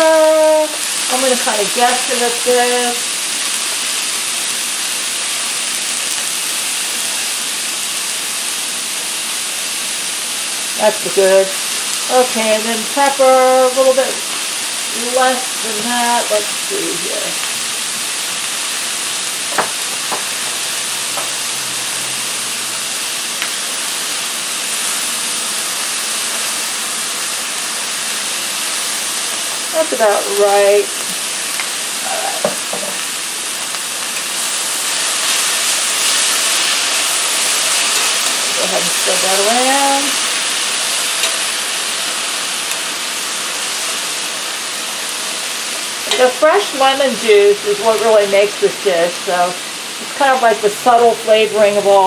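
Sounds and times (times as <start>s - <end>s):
squash sizzling in frying pan: 0.0s - 52.0s.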